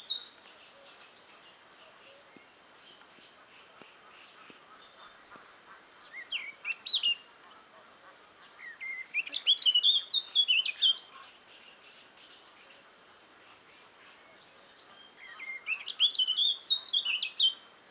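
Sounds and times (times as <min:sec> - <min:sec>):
nightingale singing: 0:00.0 - 0:05.4, 0:06.0 - 0:17.9.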